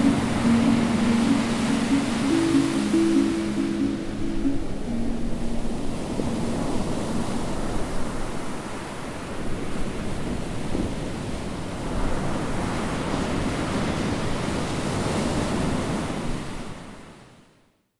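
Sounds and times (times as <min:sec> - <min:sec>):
ocean surf washing in: 0:00.0 - 0:16.2.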